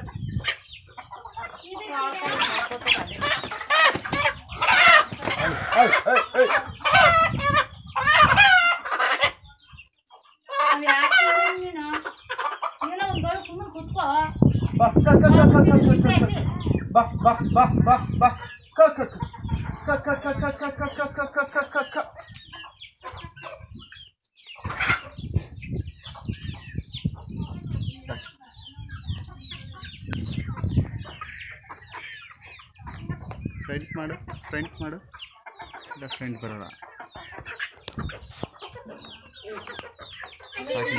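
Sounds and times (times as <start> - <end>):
chickens calling: 0.0 - 40.9.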